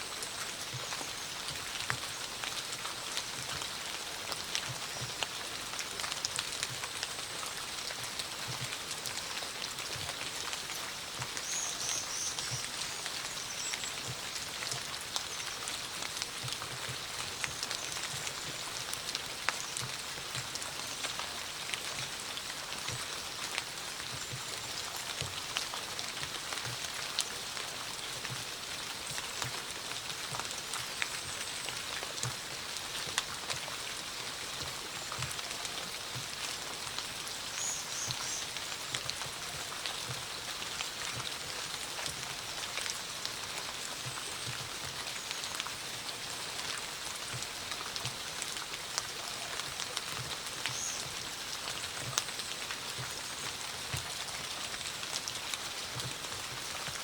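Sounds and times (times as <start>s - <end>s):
rain hiss: 0.0s - 57.0s
raindrops tapping on surfaces: 0.1s - 57.0s.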